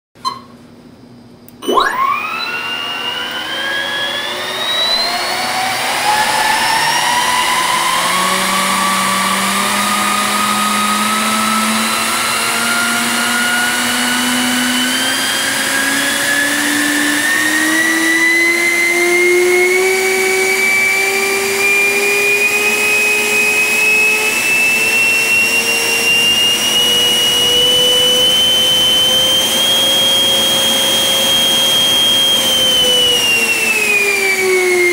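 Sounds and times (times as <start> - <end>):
electric fan whine spinning up: 0.4 - 34.9.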